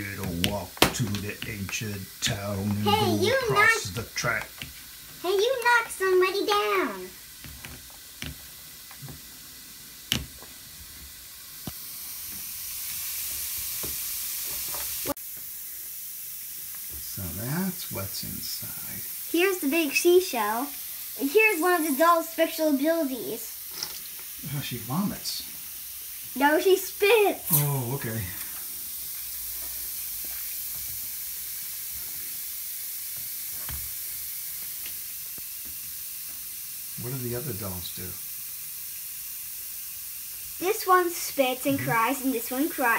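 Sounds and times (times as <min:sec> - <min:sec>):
fizzing hiss in water: 0:00.0 - 0:42.9.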